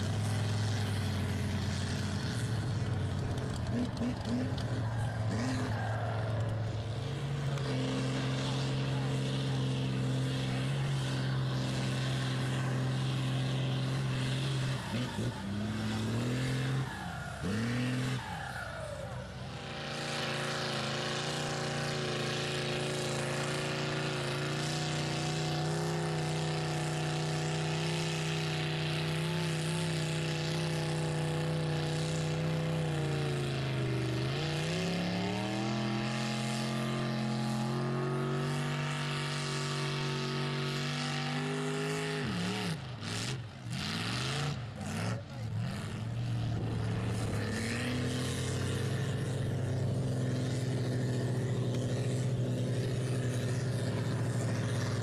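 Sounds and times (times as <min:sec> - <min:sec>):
truck engine at high revs: 0:00.0 - 0:55.0.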